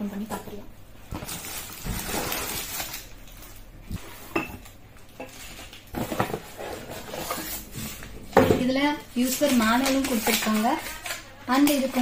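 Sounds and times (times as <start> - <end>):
plastic and cardboard crinkling: 1.1 - 12.0.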